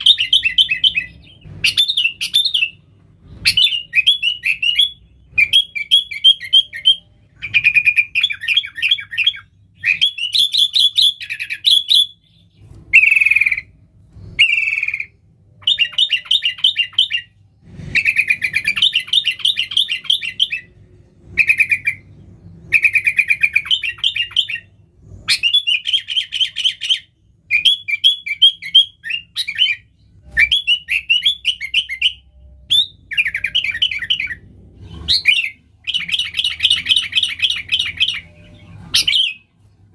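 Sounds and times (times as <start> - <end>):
bulbul singing: 0.0 - 17.4, 18.0 - 39.5.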